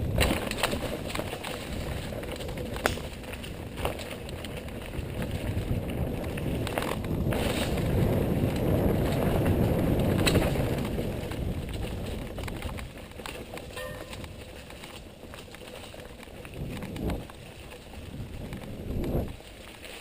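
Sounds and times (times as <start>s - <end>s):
wind on microphone: 0.0s - 19.5s
bike knocking and rattling: 0.0s - 20.0s
bike tyre roar: 0.0s - 20.0s.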